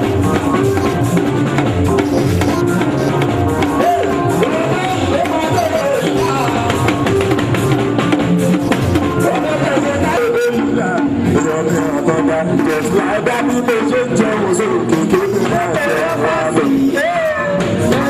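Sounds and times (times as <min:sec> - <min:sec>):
person singing: 0:00.0 - 0:01.3, 0:01.9 - 0:07.4, 0:08.4 - 0:18.0
drum beat: 0:00.0 - 0:18.0.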